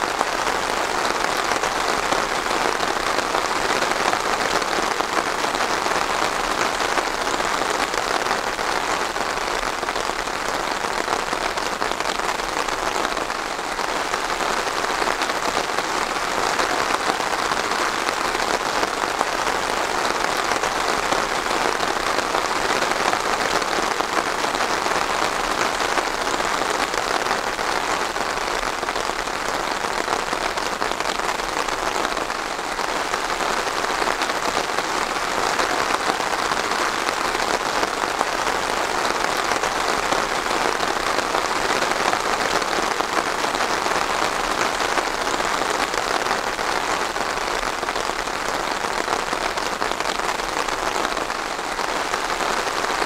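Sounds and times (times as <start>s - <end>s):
steady rain on a hard surface: 0.0s - 53.0s.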